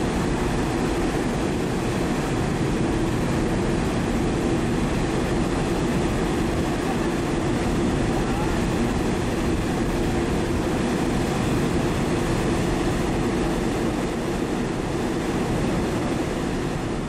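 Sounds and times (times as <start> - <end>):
ferry engines rumbling: 0.0 - 17.0.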